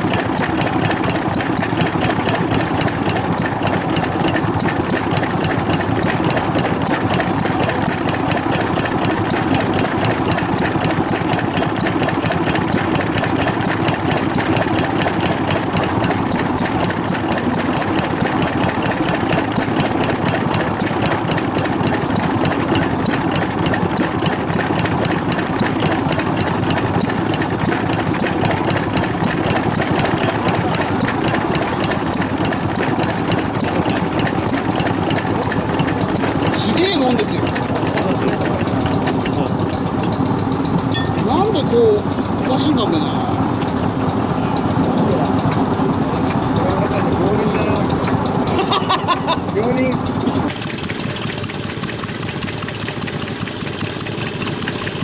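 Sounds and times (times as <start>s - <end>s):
stationary engine running: 0.0s - 55.0s.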